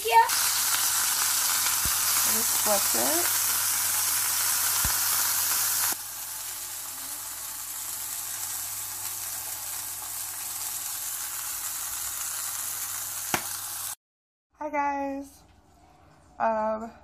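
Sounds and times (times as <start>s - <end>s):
patty sizzling in a frying pan: 0.0s - 14.0s.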